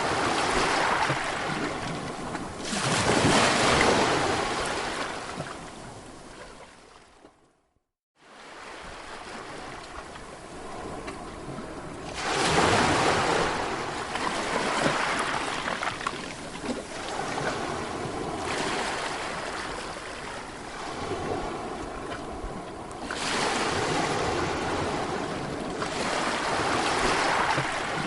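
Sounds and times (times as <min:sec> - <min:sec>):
sea waves breaking on shore: 0:00.0 - 0:07.2, 0:08.2 - 0:28.0.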